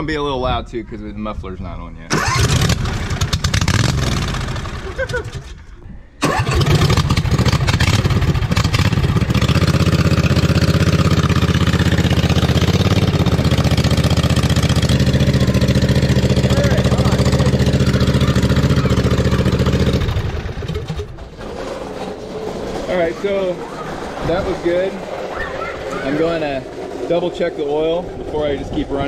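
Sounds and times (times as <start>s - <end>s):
lawn mower engine running: 2.1s - 5.6s, 6.2s - 29.0s.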